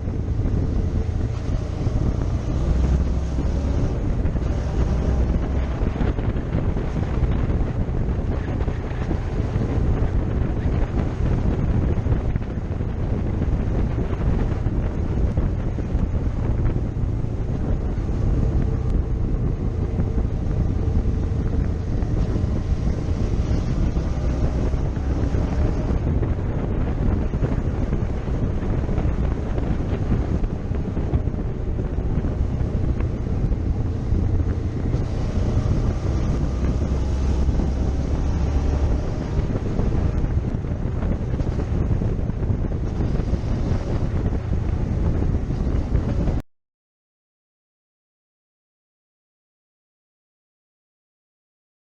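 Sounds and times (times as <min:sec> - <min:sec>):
motorcycle engine running: 0:00.0 - 0:46.4
wind buffeting microphone: 0:00.0 - 0:46.4.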